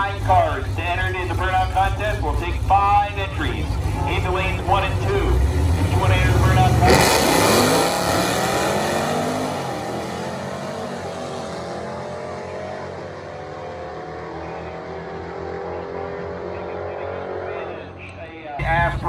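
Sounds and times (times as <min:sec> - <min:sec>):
racing car accelerating: 0:00.0 - 0:18.8.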